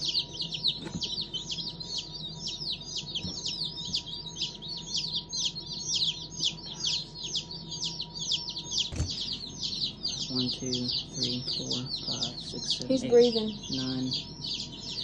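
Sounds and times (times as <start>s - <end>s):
baby chicks peeping: 0.0s - 15.0s.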